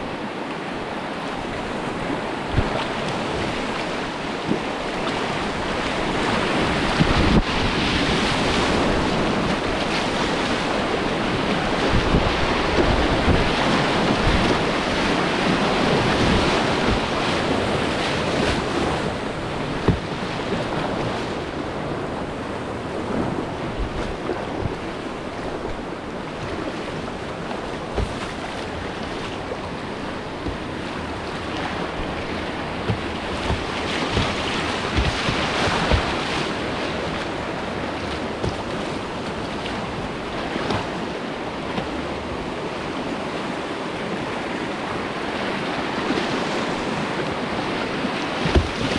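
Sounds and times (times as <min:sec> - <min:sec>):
wind noise on microphone: 0:00.0 - 0:41.1
rushing whitewater: 0:00.0 - 0:48.9.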